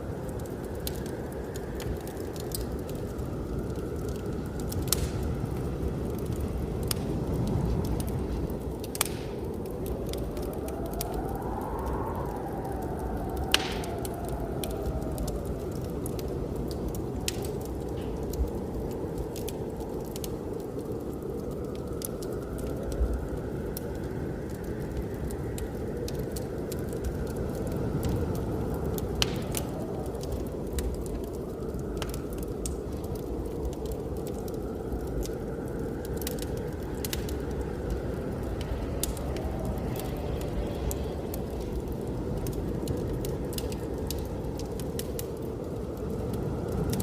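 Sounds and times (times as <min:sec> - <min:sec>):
blizzard wind rushing: 0:00.0 - 0:47.0
wood fire crackling: 0:00.0 - 0:47.0.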